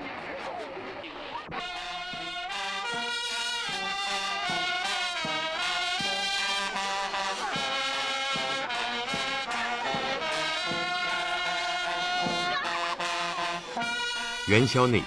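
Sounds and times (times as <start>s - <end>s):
brass band melody: 1.6s - 15.0s.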